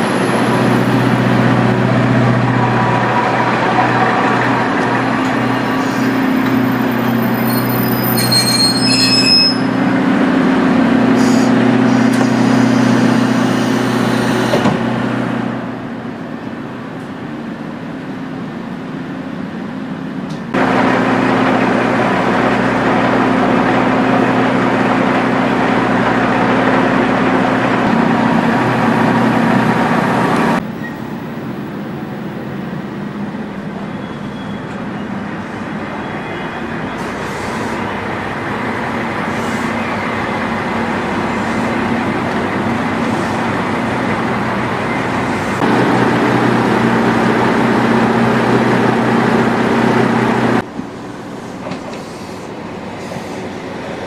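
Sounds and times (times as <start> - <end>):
railcar diesel engine running: 0.0 - 54.0.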